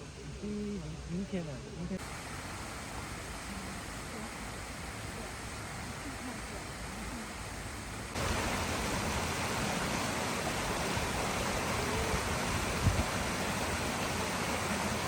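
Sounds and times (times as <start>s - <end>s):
steady rushing noise: 2.0s - 15.0s.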